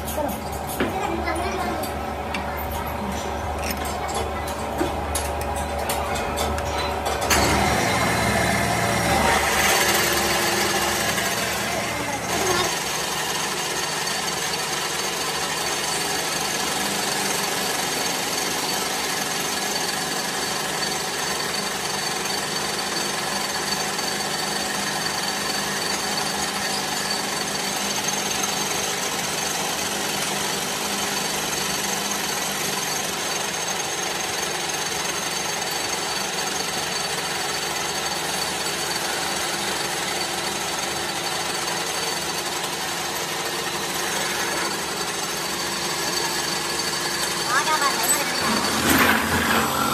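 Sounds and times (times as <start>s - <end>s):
metal lathe machining: 2.7s - 49.9s.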